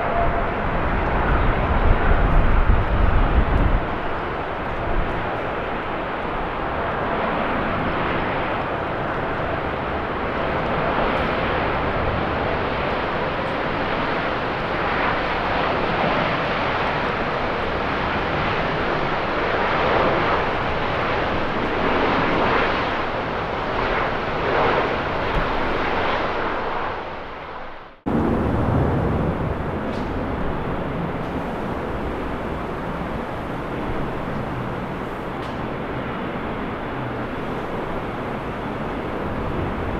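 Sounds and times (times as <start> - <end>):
jet engines roaring: 0.0 - 39.9
wind noise: 0.0 - 39.9.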